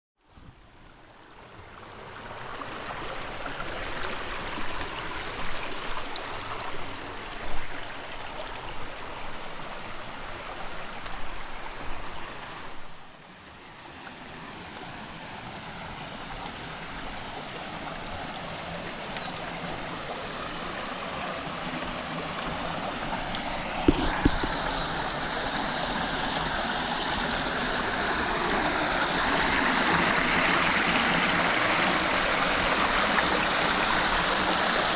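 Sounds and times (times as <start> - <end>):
river water rushing over rocks: 1.5 - 34.9.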